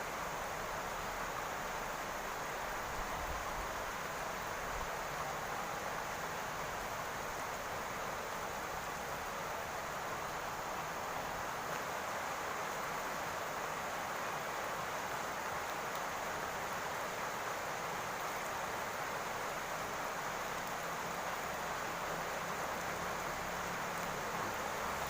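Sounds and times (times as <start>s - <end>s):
rain on a roof: 0.0s - 25.0s.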